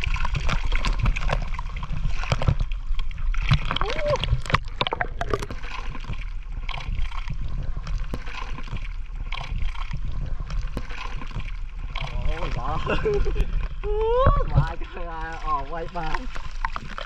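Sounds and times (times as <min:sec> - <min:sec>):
steady low rumble: 0:00.0 - 0:17.0
water sloshing and splashing: 0:00.0 - 0:17.0.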